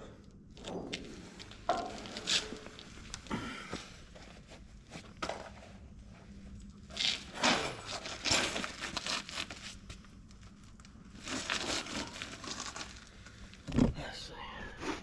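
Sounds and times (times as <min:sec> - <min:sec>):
scraping and rustling handling noises: 0:00.6 - 0:14.0.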